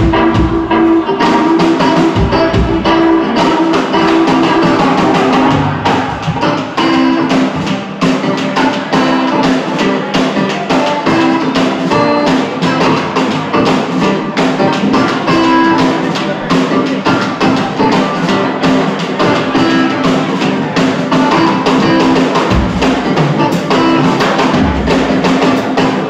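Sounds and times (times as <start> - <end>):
drum kit playing: 0.0 - 26.0
keyboard sustained notes: 0.0 - 26.0.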